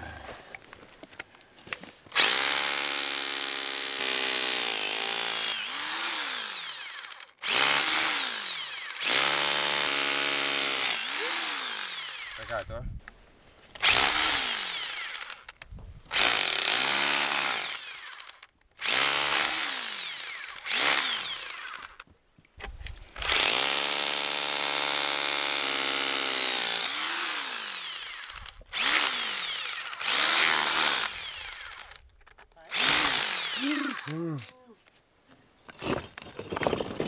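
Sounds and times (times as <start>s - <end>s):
electric power tool grinding: 2.2s - 12.5s, 13.8s - 22.1s, 23.1s - 34.4s.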